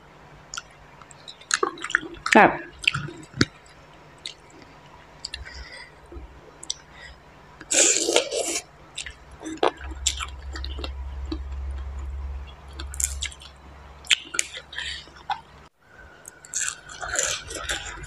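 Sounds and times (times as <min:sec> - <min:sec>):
low steady hum: 0:00.0 - 0:18.0
wet chewing and squishing: 0:00.5 - 0:07.0, 0:07.6 - 0:15.5, 0:16.2 - 0:18.0.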